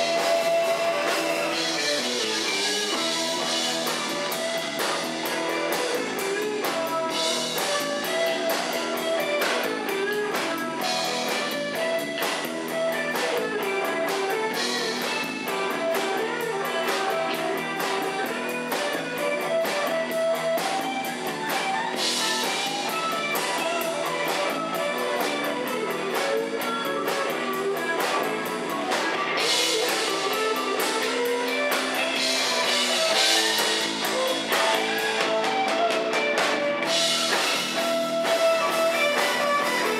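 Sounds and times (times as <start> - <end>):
drum kit beat: 0.0 - 39.9
electric guitar lead: 0.0 - 39.9.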